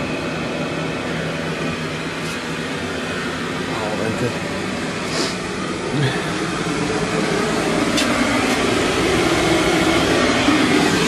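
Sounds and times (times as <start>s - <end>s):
fan motor whirring: 0.0s - 11.0s.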